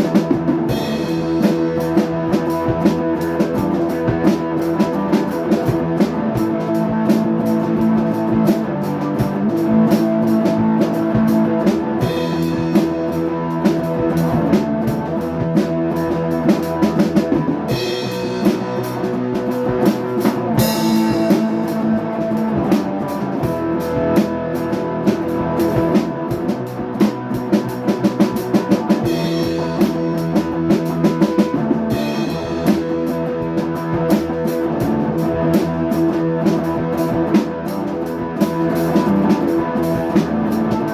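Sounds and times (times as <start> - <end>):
rock music: 0.0 - 40.9.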